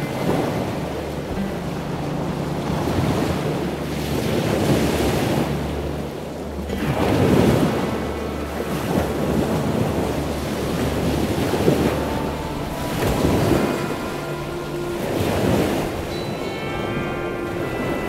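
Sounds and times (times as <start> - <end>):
gusty wind: 0.0 - 18.0
low steady drone: 0.0 - 18.0
surf breaking over rocks: 0.0 - 18.0.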